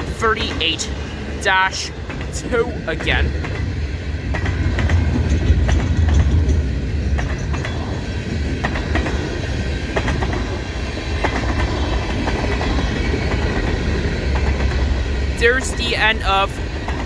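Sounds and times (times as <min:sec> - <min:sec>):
train wheels clacking over rail joints: 0:00.0 - 0:01.1, 0:02.0 - 0:15.6, 0:16.7 - 0:17.0
train cars rumbling: 0:00.0 - 0:17.0.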